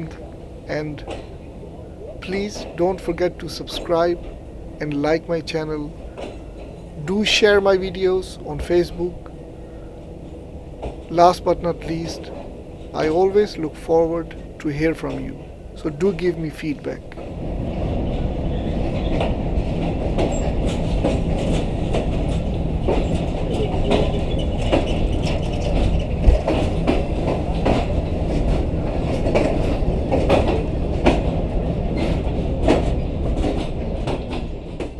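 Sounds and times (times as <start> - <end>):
train rumbling along track: 0.0 - 34.9
wheels clacking over rails: 0.0 - 34.9.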